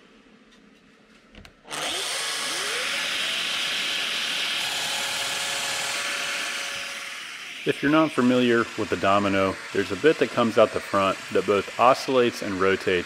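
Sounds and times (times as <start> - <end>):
joiner motor whining: 1.6 - 13.0
dust extractor running: 1.7 - 13.0.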